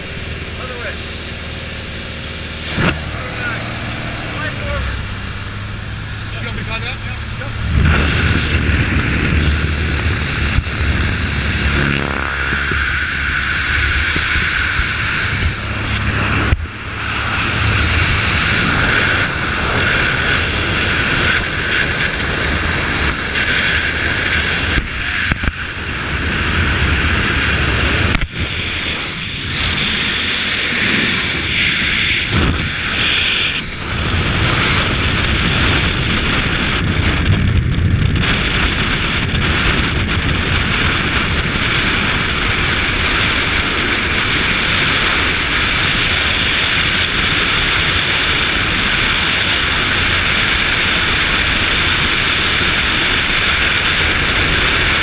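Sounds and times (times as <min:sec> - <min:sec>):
freefall wind over microphone: 0:00.0 - 0:55.0
propeller plane engine: 0:00.0 - 0:55.0
wind rushing: 0:07.2 - 0:55.0.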